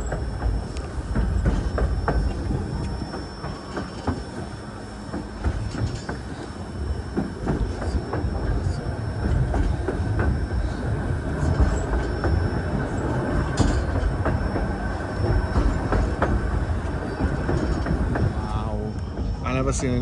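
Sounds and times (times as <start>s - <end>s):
train cars rolling rumble: 0.0s - 20.0s
wheels clicking over rails: 0.0s - 20.0s.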